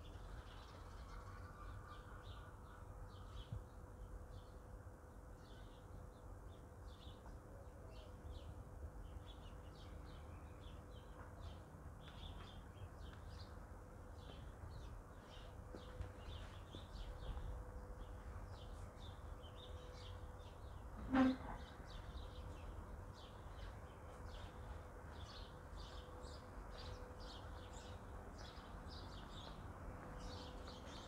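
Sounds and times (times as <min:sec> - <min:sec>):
small birds chirping: 0:05.4 - 0:31.0.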